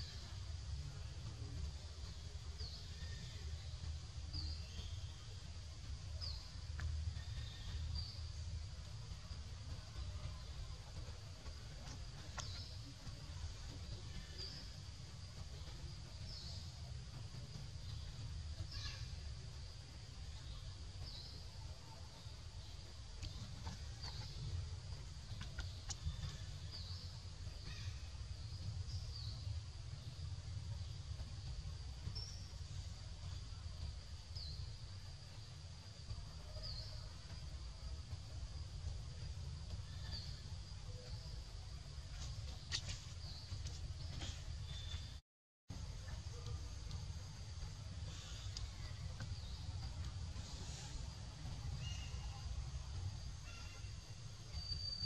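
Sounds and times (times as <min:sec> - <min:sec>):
steady low rumble: 0:00.0 - 0:55.0.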